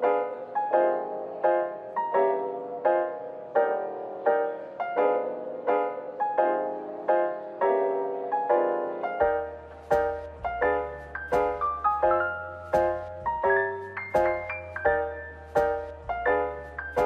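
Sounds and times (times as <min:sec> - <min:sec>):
keyboard playing chords: 0:00.0 - 0:17.0.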